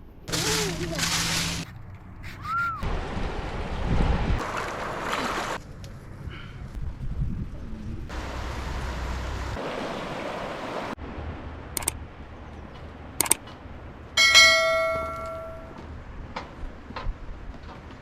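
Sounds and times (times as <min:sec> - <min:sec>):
steady outdoor rushing noise: 0:00.0 - 0:18.0.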